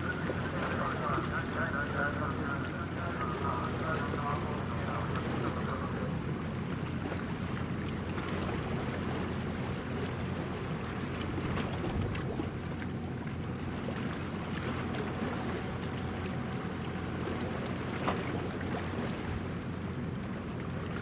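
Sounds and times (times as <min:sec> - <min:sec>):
ship turbine low drone: 0:00.0 - 0:21.0.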